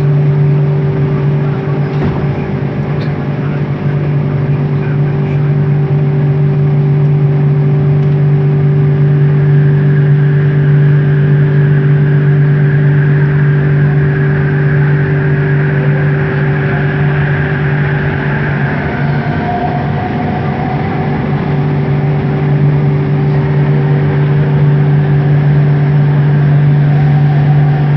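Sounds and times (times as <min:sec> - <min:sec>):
train motor hum: 0:00.0 - 0:27.9
train running rumble: 0:00.0 - 0:27.9.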